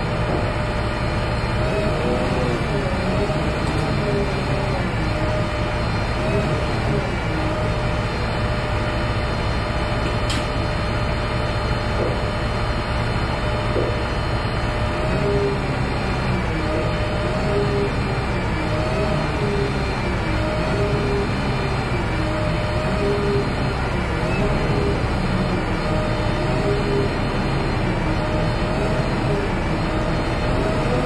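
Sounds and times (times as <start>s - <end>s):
crane engine running: 0.0s - 31.0s.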